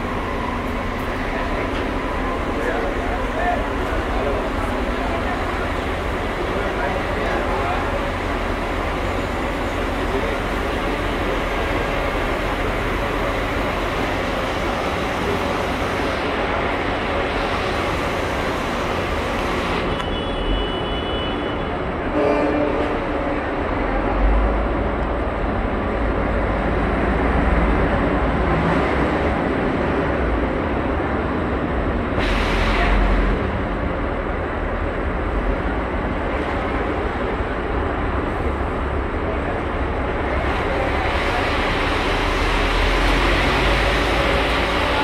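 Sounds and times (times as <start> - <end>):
bus engines idling: 0.0 - 20.8, 22.8 - 45.0.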